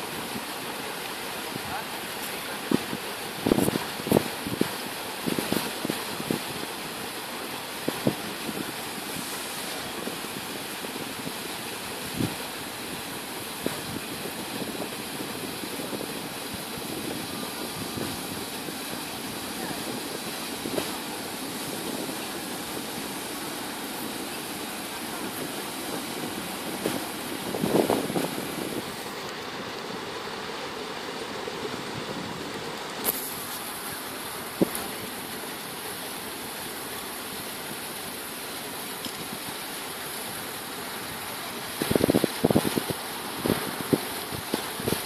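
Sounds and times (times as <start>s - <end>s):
boat engines running: 0.0s - 45.0s.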